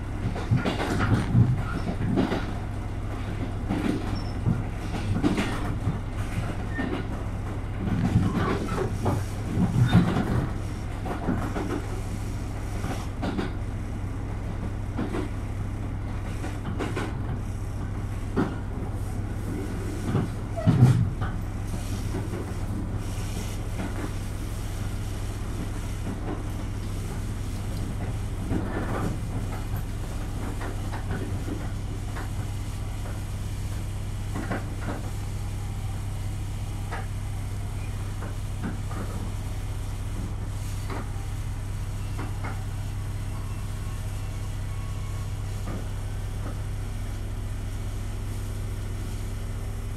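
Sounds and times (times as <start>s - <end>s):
diesel railcar engine drone: 0.0s - 49.9s.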